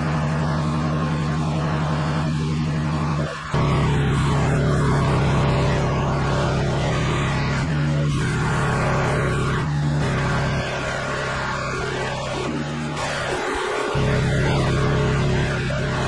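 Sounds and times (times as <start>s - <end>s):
pressure washer engine hum: 0.3s - 16.0s.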